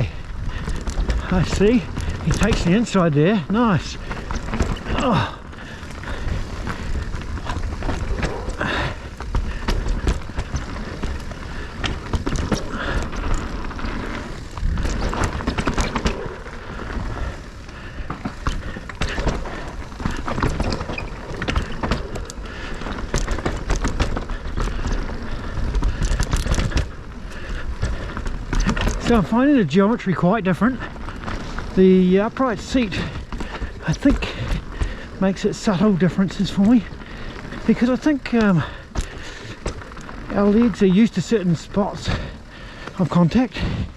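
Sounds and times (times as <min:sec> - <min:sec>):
bike knocking and rattling: 0:00.0 - 0:43.9
bike tyre riding noise: 0:00.0 - 0:43.9.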